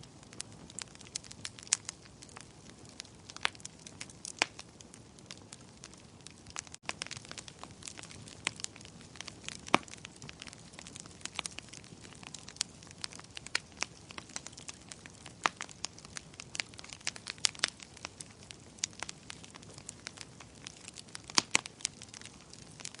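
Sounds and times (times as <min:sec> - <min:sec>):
fire crackling and popping: 0:00.0 - 0:23.0
steady low fire hiss: 0:00.0 - 0:23.0.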